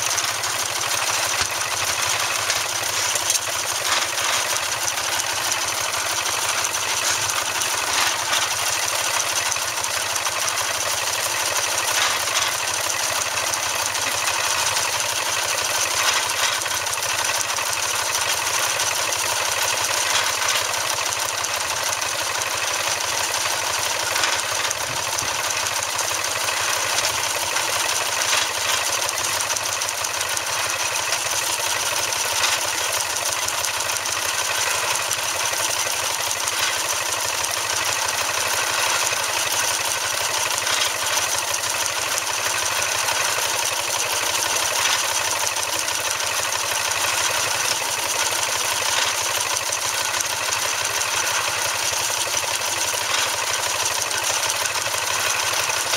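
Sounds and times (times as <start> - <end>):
steam engine running: 0.0 - 55.9.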